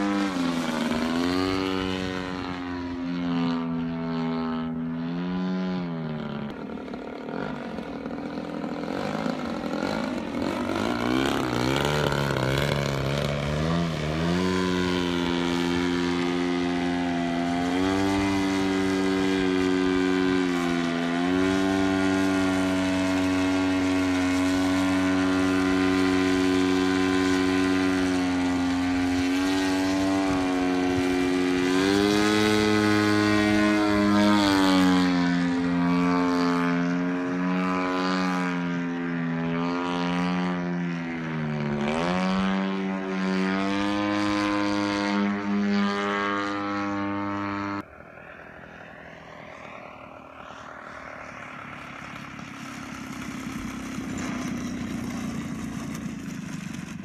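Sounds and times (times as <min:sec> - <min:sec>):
model plane engine and propeller buzz: 0:00.0 - 0:57.0.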